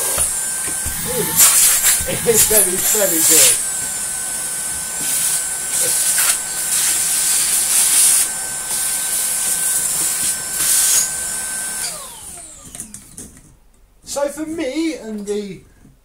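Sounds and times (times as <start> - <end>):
vacuum motor whine: 0.0 - 13.4.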